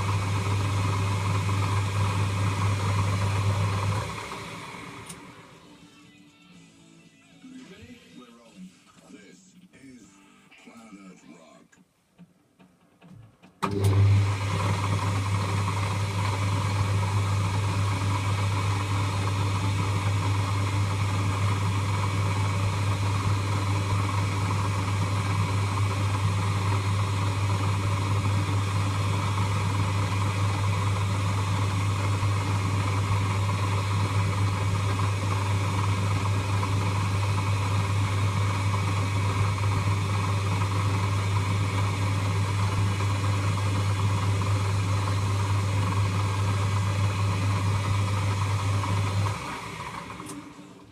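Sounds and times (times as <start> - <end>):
lathe motor running: 0.0 - 5.6, 13.6 - 50.9.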